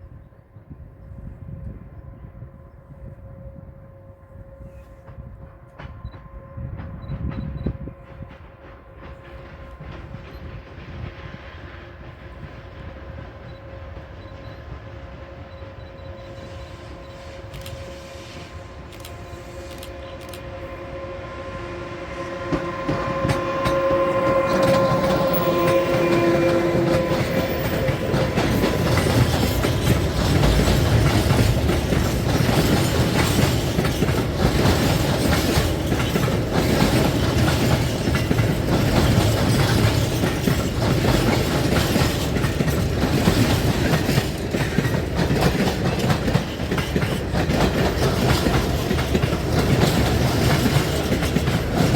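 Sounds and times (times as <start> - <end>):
train horn: 0.4 - 42.3
train wheels clattering over rails: 5.0 - 20.6, 22.0 - 51.9.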